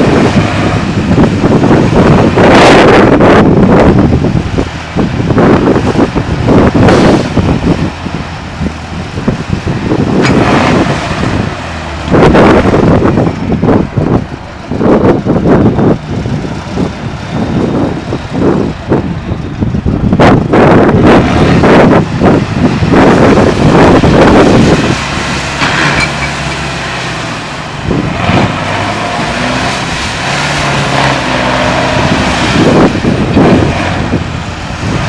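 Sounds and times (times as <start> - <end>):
truck diesel engine revving: 0.0 - 35.0.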